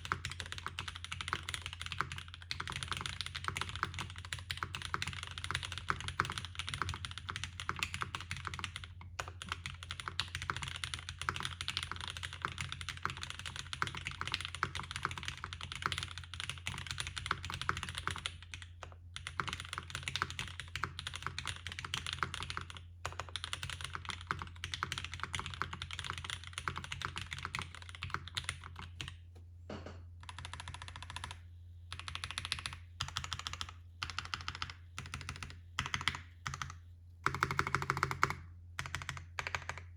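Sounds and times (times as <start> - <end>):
fast mechanical keyboard typing: 0.0 - 29.2, 30.2 - 39.9.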